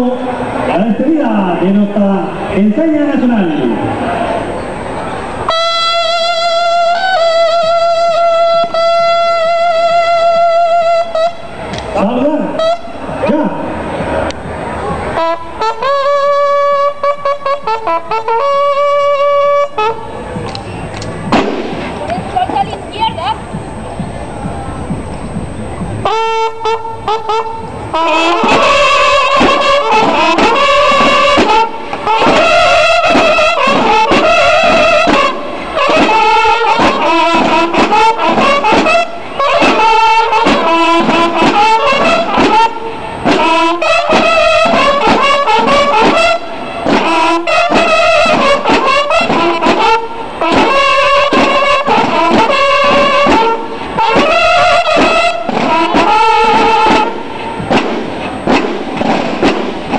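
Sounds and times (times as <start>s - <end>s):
brass instruments playing ceremonial tune: 0.0s - 59.9s.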